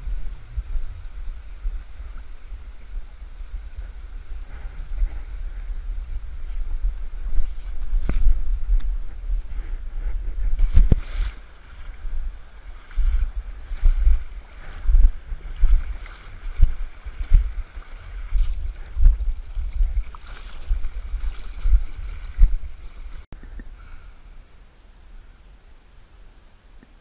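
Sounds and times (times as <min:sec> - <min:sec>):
wading through shallow water: 0:00.0 - 0:23.3.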